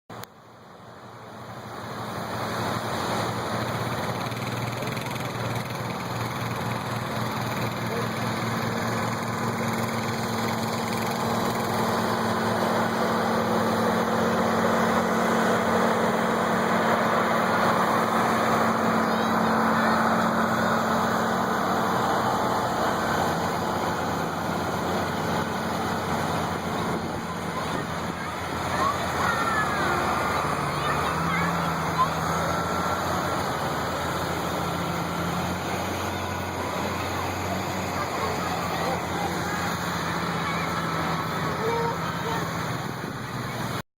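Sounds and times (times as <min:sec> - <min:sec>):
heavy engine humming: 0:00.1 - 0:43.8.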